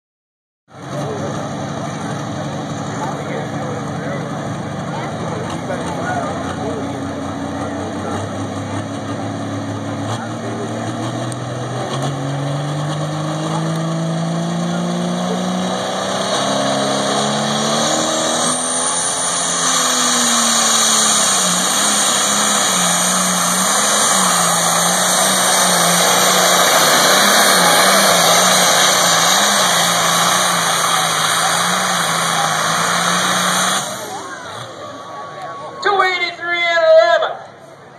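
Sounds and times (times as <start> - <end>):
tractor diesel engine at full throttle: 0.7 - 37.9.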